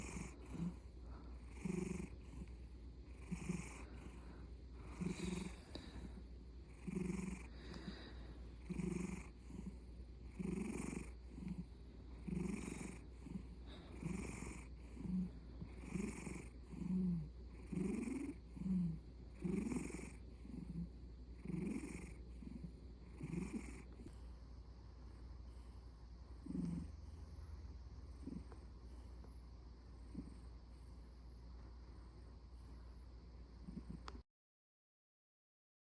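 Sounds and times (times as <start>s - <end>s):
cat snoring: 0.0s - 24.3s, 25.1s - 31.3s, 33.6s - 34.2s.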